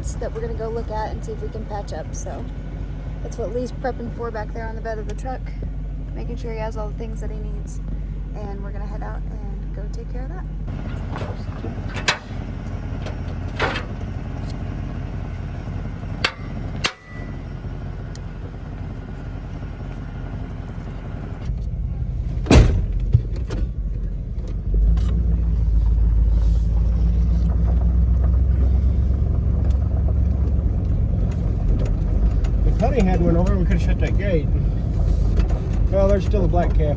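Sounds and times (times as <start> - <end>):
pickup truck engine rumbling: 0.0 - 36.9.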